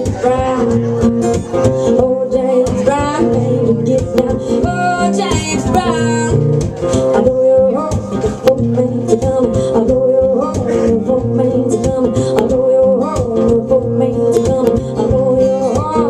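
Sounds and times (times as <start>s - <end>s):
acoustic guitar strumming: 0.0s - 16.0s
woman singing: 0.0s - 16.0s.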